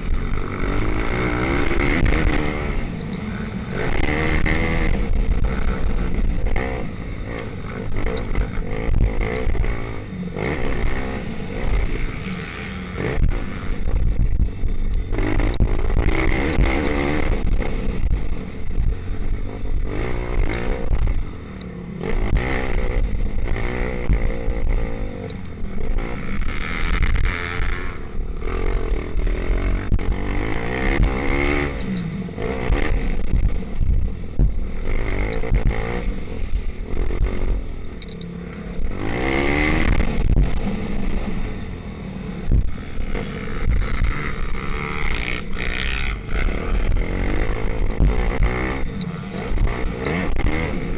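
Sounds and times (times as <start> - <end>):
small motorbikes revving past: 0.0 - 50.9.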